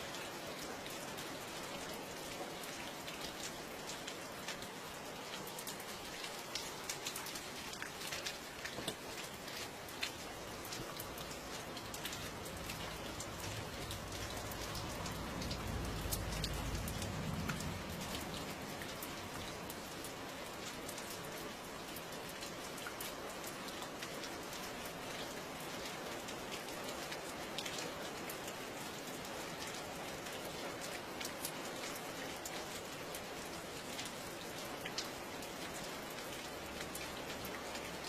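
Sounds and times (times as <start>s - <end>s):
rain drops ticking on hard surface: 0.0s - 38.0s.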